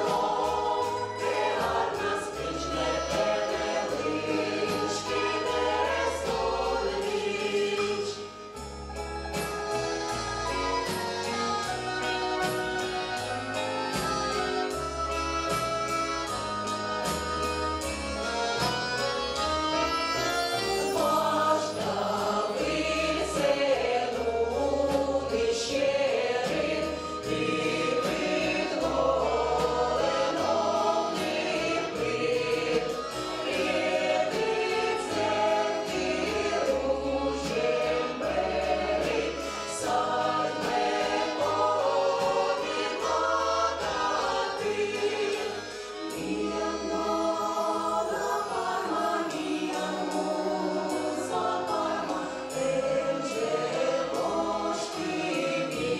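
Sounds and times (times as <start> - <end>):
bass and drums: 0.0 - 55.9
chorus singing folk song: 0.0 - 55.9.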